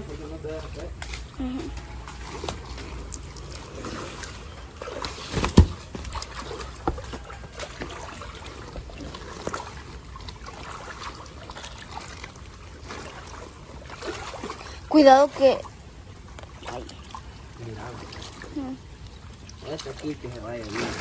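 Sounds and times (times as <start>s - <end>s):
people wading through floodwater: 0.0s - 21.0s.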